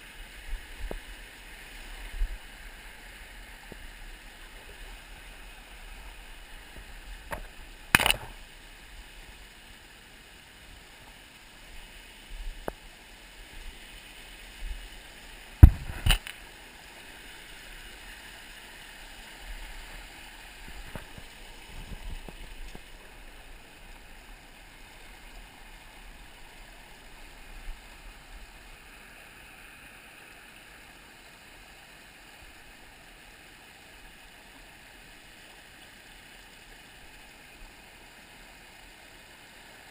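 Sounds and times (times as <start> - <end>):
brook running over stones: 0.0 - 39.9.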